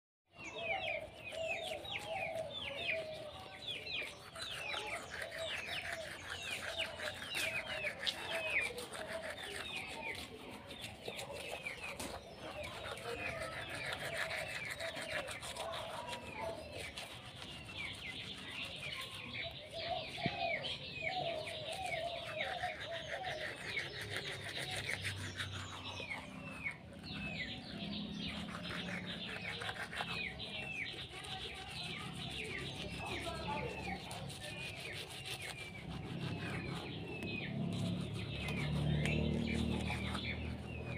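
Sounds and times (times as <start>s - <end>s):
birds chirping: 0.3s - 40.9s.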